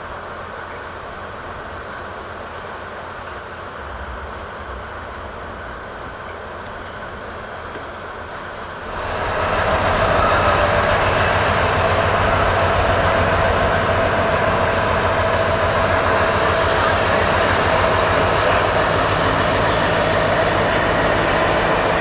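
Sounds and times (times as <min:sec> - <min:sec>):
train passing with a whine: 0:00.0 - 0:22.0
train running: 0:00.0 - 0:22.0.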